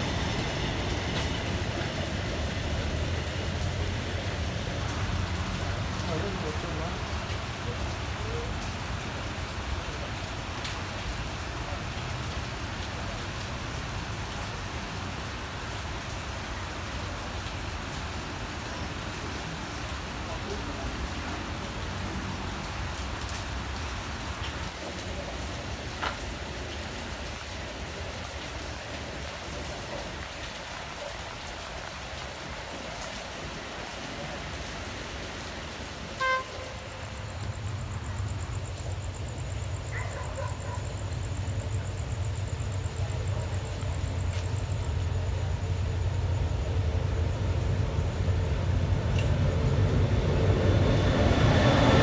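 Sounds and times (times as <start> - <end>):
rain falling on roof: 0.0 - 52.0.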